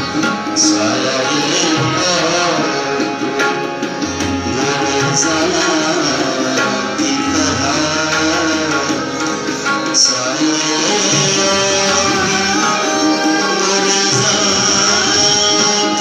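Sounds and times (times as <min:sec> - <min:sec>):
harmonium: 0:00.0 - 0:16.0
tabla drumming: 0:00.0 - 0:16.0.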